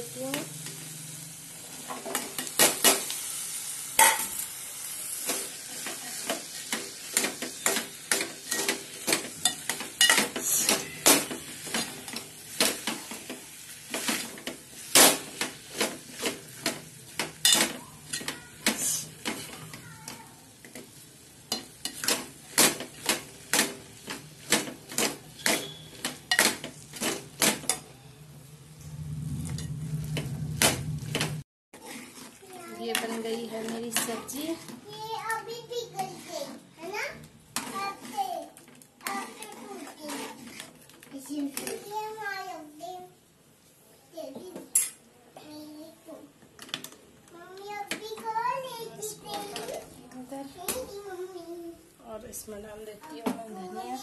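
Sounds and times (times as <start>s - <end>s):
soft sizzle: 0.0s - 54.0s.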